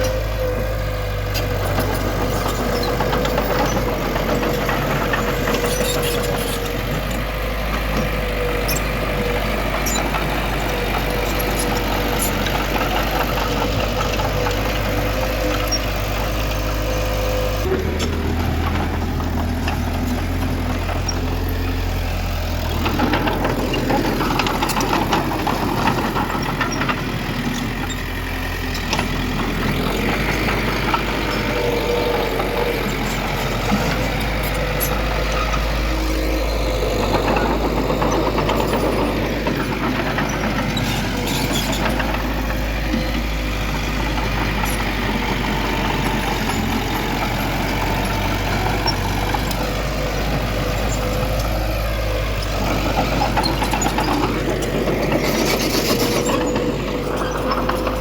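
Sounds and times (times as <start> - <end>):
heavy machinery diesel engines: 0.0 - 58.0.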